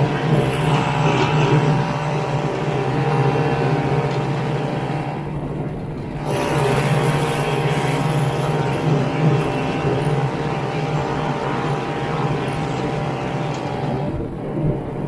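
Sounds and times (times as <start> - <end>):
snowmobile two-stroke engine running: 0.0 - 15.0.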